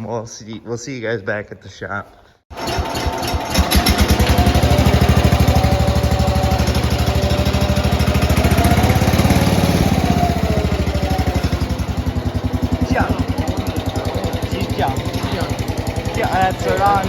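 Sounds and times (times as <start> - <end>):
lawn tractor engine putter: 2.5 - 17.0.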